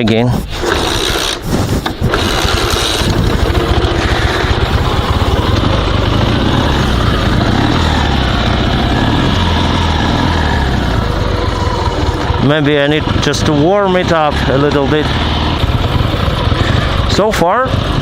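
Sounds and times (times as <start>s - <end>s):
motorcycle engine running: 0.6s - 18.0s.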